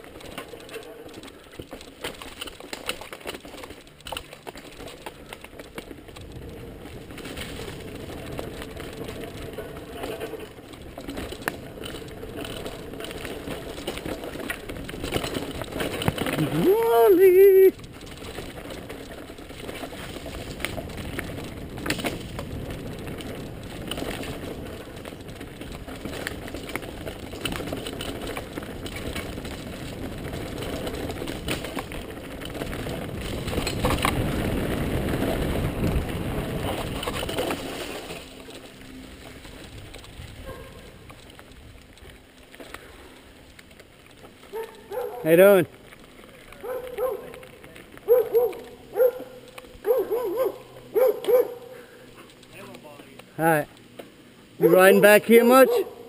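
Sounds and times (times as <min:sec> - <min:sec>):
bike tyres rumbling on trail: 0:00.0 - 0:56.0.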